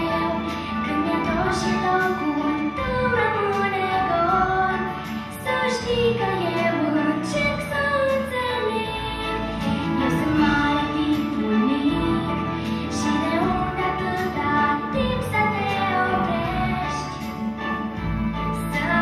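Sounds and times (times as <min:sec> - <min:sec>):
girl singing ballad: 0:00.0 - 0:19.0
instrumental accompaniment: 0:00.0 - 0:19.0.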